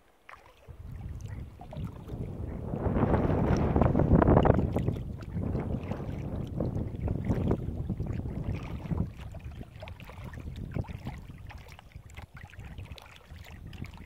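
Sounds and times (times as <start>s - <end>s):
water splashing around a kayak: 0.0s - 14.0s
wind rumbling on microphone: 0.6s - 14.0s.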